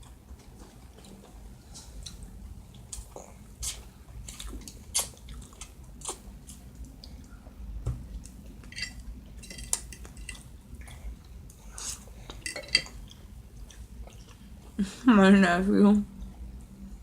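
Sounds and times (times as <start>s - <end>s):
person chewing with mouth smacks: 0.0s - 8.7s, 9.7s - 14.8s.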